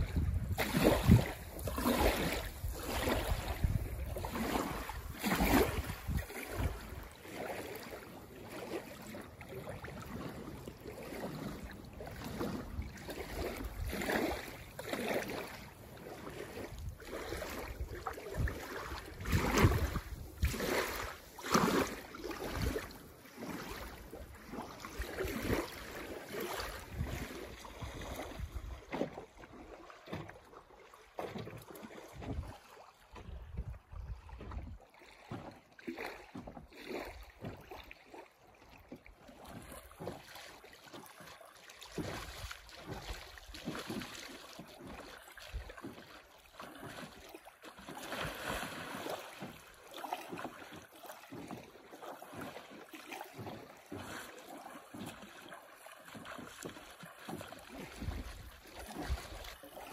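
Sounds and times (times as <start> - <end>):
water lapping and splashing: 0.0 - 59.9.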